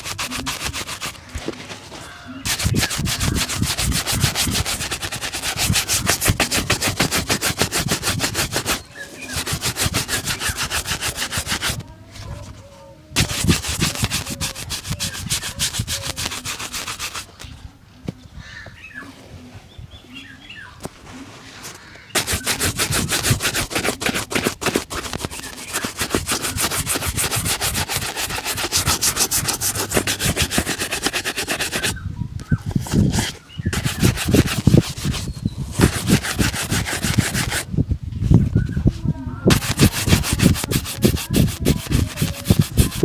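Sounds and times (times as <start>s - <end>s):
brush rubbing leather shoe: 0.0s - 11.8s, 13.2s - 17.3s, 22.2s - 32.0s, 32.6s - 37.7s, 39.5s - 43.0s.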